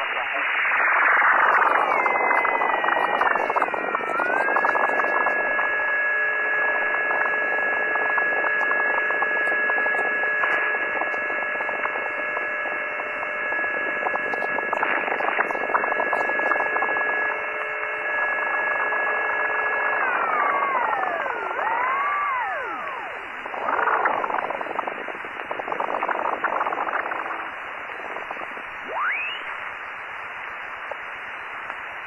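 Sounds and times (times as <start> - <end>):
radio band noise hiss: 0.0 - 32.0
steady radio tones: 0.0 - 32.0.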